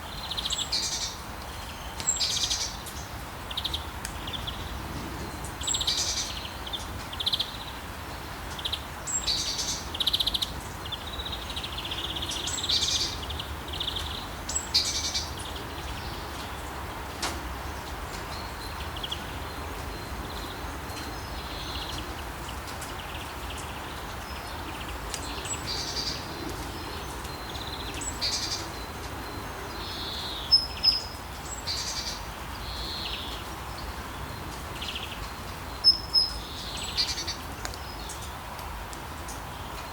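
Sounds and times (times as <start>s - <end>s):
rain hiss: 0.0s - 39.9s
songbirds chirping: 0.0s - 39.9s.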